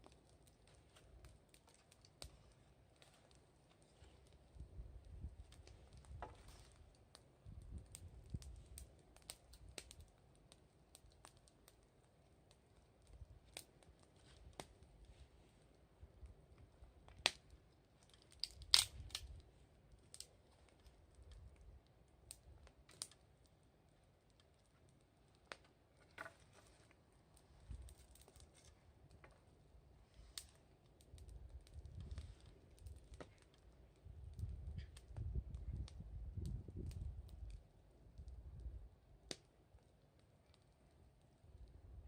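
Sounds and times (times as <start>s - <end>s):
bonfire crackling and popping: 0.0s - 42.0s.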